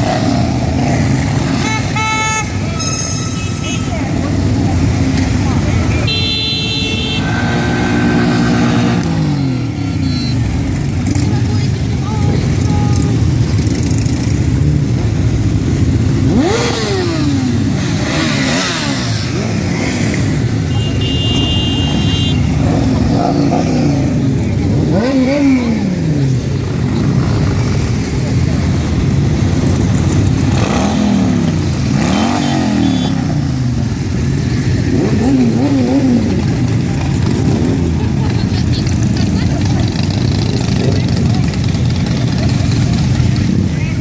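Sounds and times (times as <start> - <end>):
motorcycle engine revving: 0.0 - 2.6, 3.4 - 44.0.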